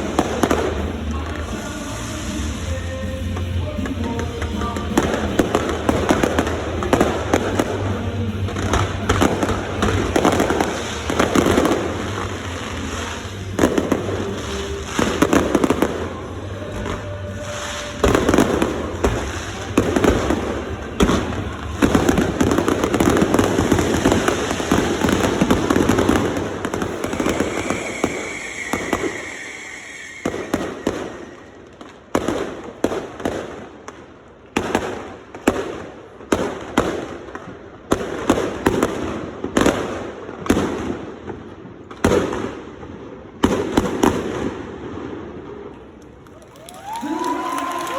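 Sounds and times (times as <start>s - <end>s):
fireworks bangs and crackle: 0.0s - 47.9s.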